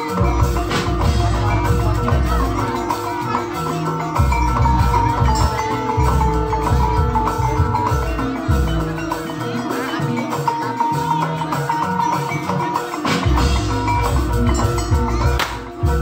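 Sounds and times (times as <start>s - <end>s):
drums beating: 0.0s - 16.0s
high melodic line: 0.0s - 16.0s
ringing metallophones: 0.0s - 16.0s.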